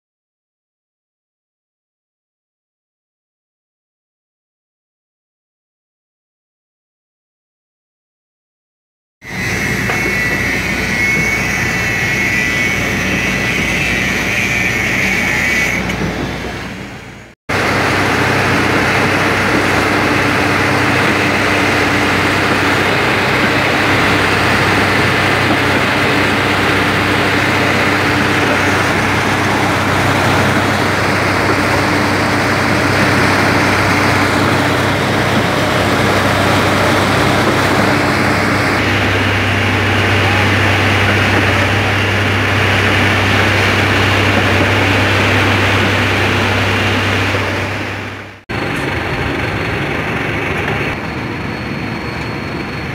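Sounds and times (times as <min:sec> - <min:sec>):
diesel machinery drone: 0:09.2 - 0:52.9.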